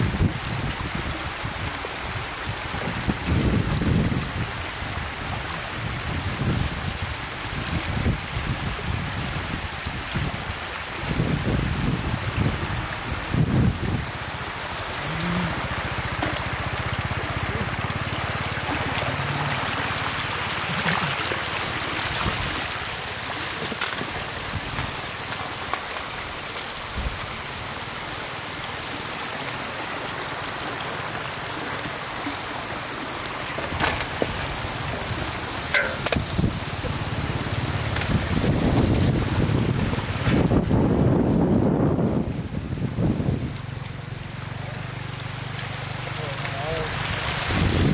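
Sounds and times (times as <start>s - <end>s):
stream water running: 0.0s - 47.9s
water splashes: 0.0s - 47.9s.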